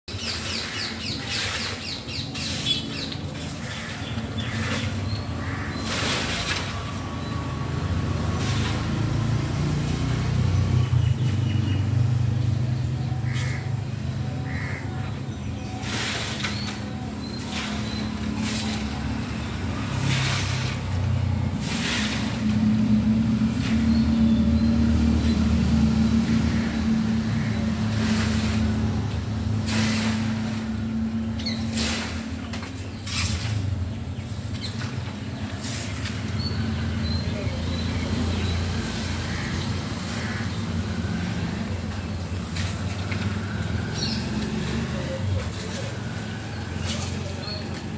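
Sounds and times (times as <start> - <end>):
motor vehicle rumble: 0.0 - 47.9.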